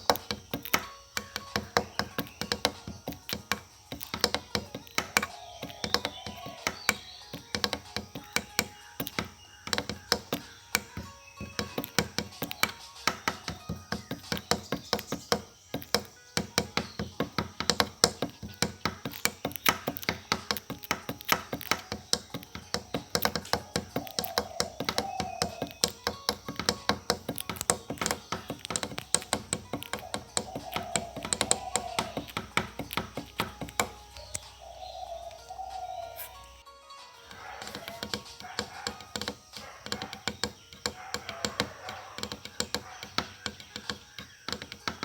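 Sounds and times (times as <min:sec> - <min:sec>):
short wavering calls: 0:00.0 - 0:16.2, 0:22.7 - 0:43.4
rapid sharp clicks and taps: 0:00.0 - 0:35.4, 0:37.3 - 0:45.0.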